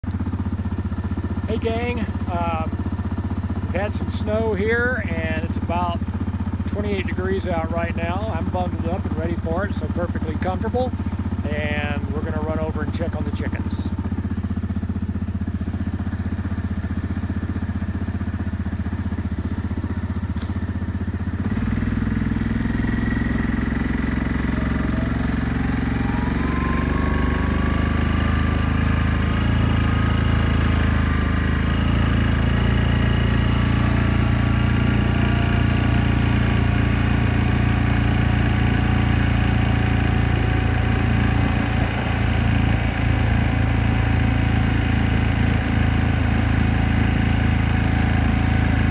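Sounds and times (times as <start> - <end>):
atv engine running: 0.0 - 48.9
engine whine: 0.0 - 48.9.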